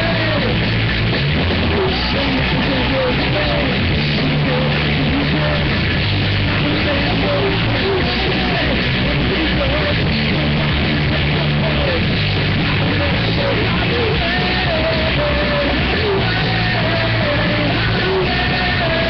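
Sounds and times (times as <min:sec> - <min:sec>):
person singing: 0:00.0 - 0:00.7, 0:01.6 - 0:19.0
live rock band: 0:00.0 - 0:19.0.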